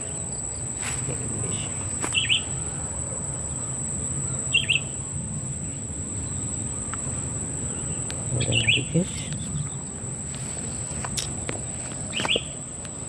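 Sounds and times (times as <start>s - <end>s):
birds chirping: 0.0s - 13.0s
high-pitched insect drone: 0.0s - 13.0s.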